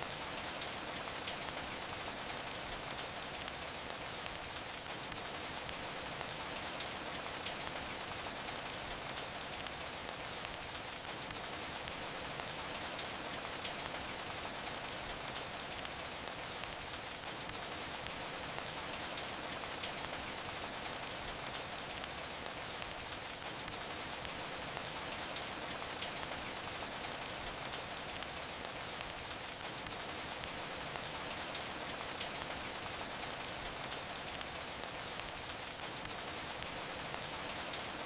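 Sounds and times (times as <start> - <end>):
steady rain: 0.0 - 38.0
wood fire crackling: 0.0 - 38.0.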